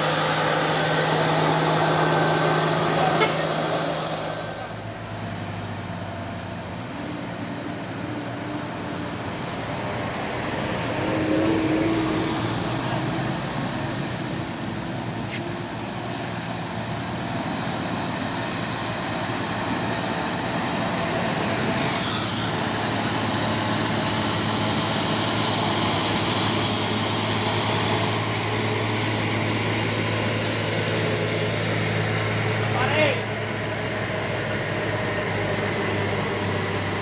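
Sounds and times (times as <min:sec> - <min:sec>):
truck diesel engine drone: 0:00.0 - 0:37.0.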